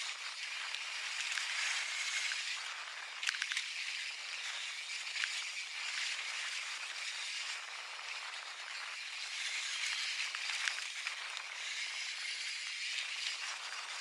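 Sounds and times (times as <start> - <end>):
bike clicking and rattling: 0.0 - 14.0.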